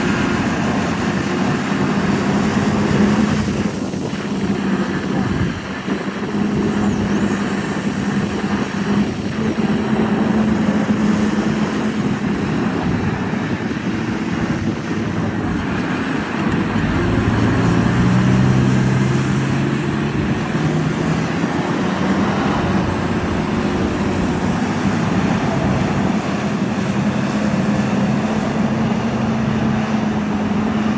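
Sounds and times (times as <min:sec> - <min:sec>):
heavy vehicle engine rumble: 0:00.0 - 0:30.9.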